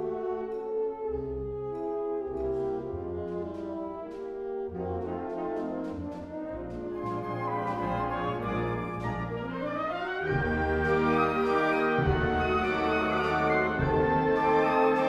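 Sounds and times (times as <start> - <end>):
wind band brass chords: 0.0 - 15.0.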